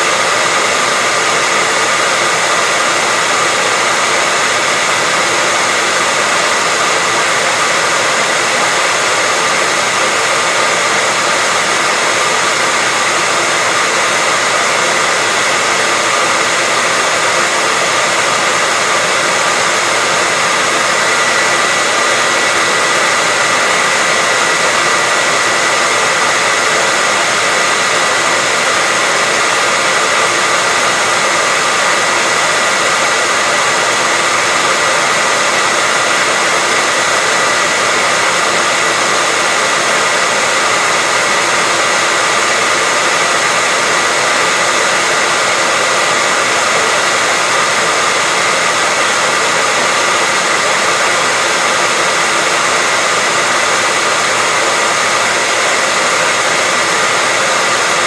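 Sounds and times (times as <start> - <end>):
hairdryer running: 0.0 - 58.0.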